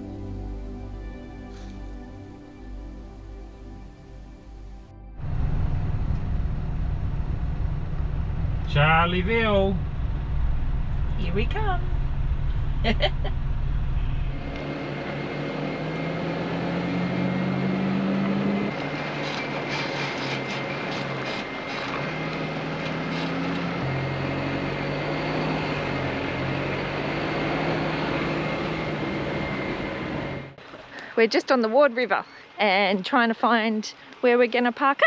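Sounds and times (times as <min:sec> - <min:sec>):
truck diesel engine droning: 0:00.0 - 0:33.8.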